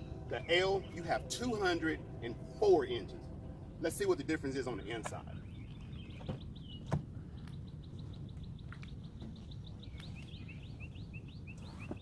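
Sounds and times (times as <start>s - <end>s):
bird chirping: 0.0s - 12.0s
low background rumble: 0.0s - 12.0s.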